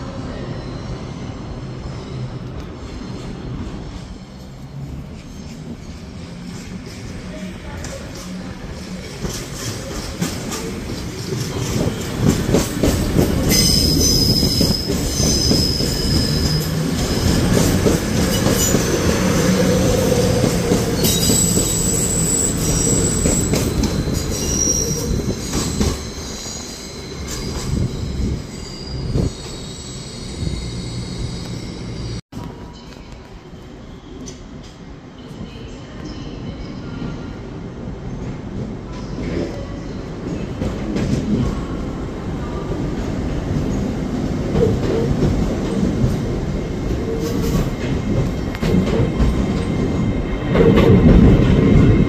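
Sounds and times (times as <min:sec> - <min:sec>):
train engines rumbling: 0:00.0 - 0:52.0.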